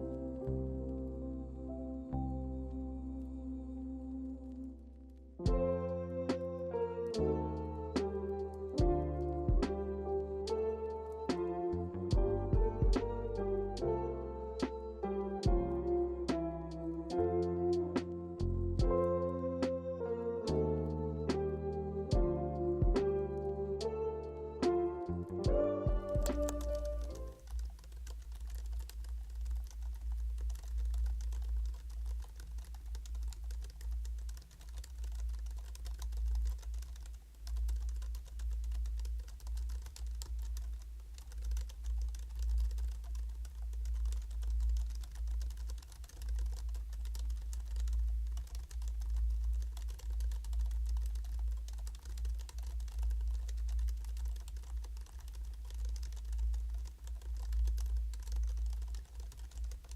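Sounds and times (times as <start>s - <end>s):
soft keyboard typing: 5.4s - 59.9s.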